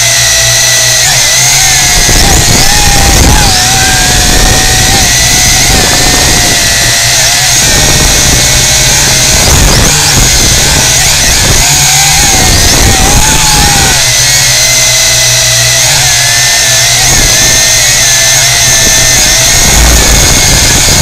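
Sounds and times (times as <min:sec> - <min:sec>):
drone motors whining: 0:00.0 - 0:21.0
wind rumble on microphone: 0:01.1 - 0:15.2, 0:15.8 - 0:21.0.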